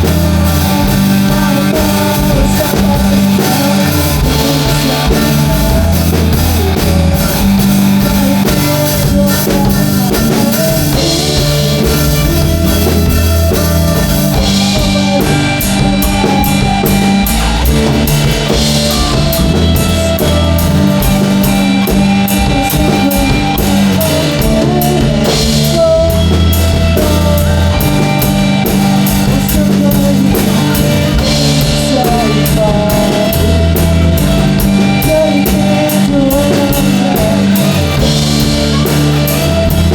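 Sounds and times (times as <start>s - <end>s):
bass notes: 0.0s - 39.9s
drum kit beat: 0.0s - 39.9s
guitar: 0.0s - 39.9s
rock band music: 0.0s - 39.9s.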